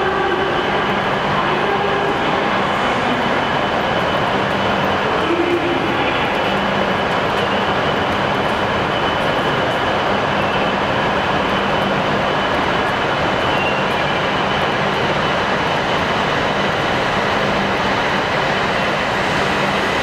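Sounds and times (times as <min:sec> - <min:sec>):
train mechanical rushing noise: 0:00.0 - 0:20.0.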